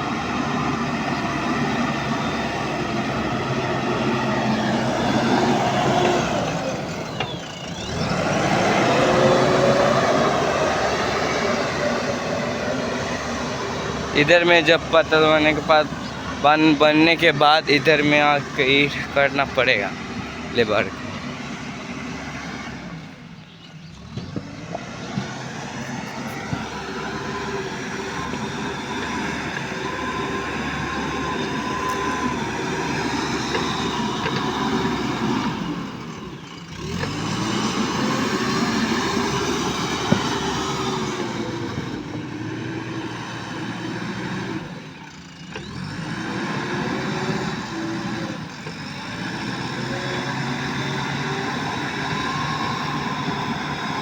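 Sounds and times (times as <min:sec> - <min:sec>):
diesel engine under hydraulic load: 0:00.0 - 0:54.0.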